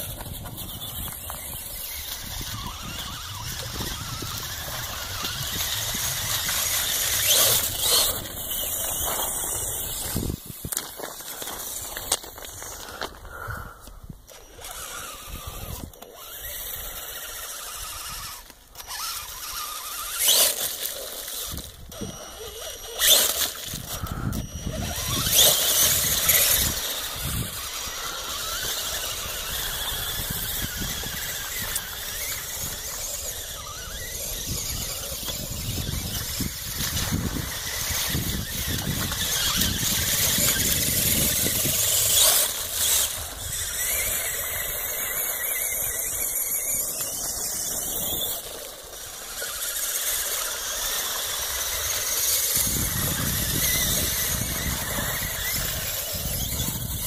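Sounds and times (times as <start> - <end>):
high-pitched electric motor whine: 0.0 - 57.0.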